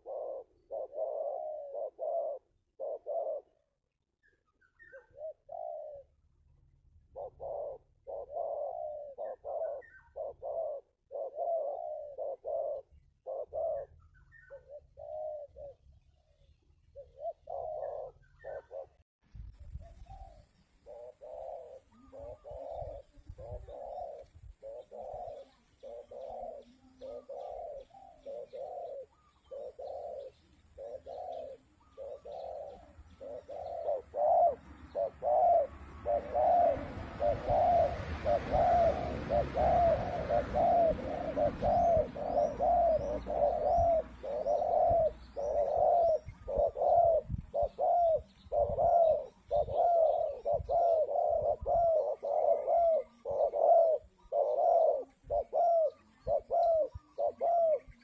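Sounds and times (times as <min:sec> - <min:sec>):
dove cooing: 0:00.0 - 0:19.0, 0:19.8 - 0:58.0
small bird chirping faintly: 0:00.0 - 0:58.0.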